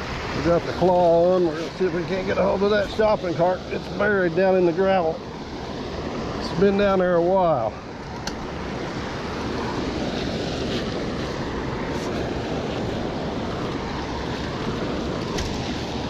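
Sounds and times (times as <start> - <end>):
water rushing over a dam: 0.0 - 16.0.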